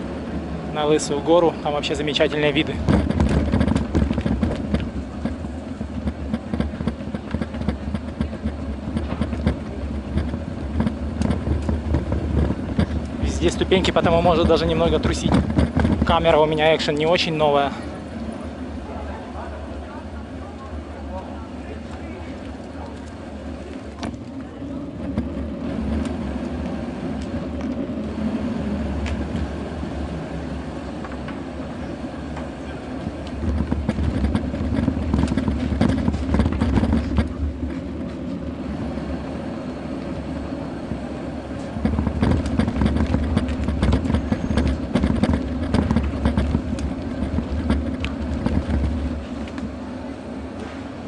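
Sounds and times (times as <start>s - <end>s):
bicycle rattling over paving stones: 0.7s - 51.0s.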